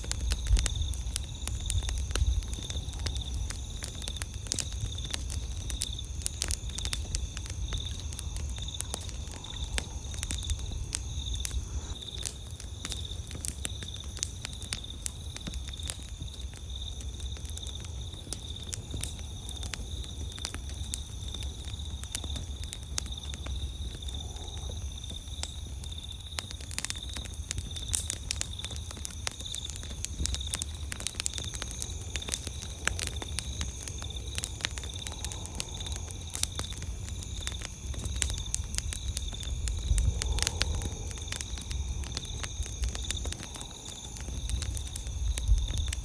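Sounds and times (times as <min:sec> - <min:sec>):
campfire crackling and popping: 0:00.0 - 0:46.0
crickets chirping: 0:00.0 - 0:46.0.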